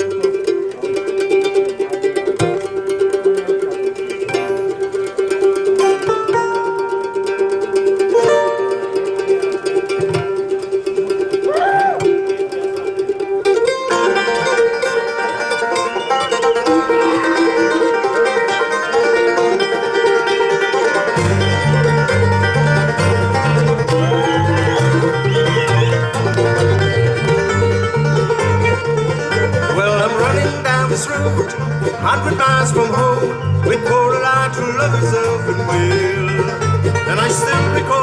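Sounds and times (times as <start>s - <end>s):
banjo: 0.0s - 38.0s
bass notes: 0.0s - 38.0s
bluegrass band playing: 0.0s - 38.0s.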